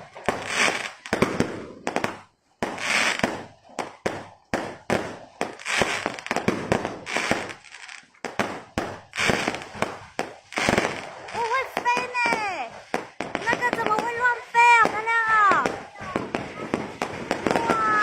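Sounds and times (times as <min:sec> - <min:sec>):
fireworks bangs and crackle: 0:00.0 - 0:18.0.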